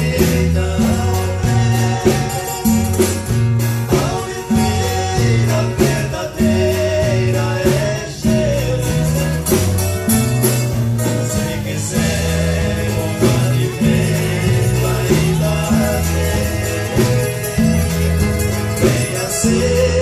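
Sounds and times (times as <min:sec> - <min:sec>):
person singing: 0:00.0 - 0:03.3, 0:03.9 - 0:10.1, 0:11.0 - 0:20.0
gospel band playing: 0:00.0 - 0:20.0.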